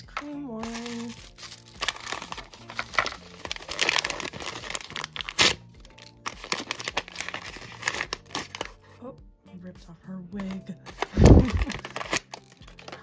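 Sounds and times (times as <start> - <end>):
quiet background music: 0.0 - 13.0
packaging crinkling and tearing: 0.6 - 8.8, 10.4 - 13.0.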